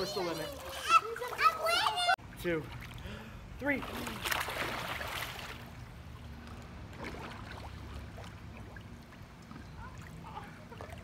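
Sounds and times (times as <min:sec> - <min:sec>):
pool water lapping: 0:00.0 - 0:11.0.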